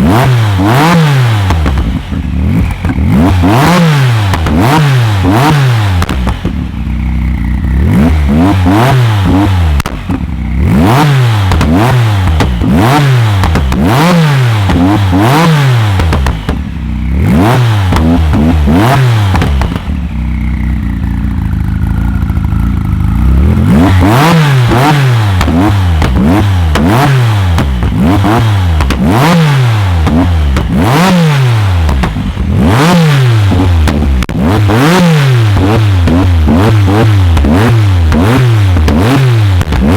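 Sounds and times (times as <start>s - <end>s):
car engine revving in blips: 0.0s - 39.9s.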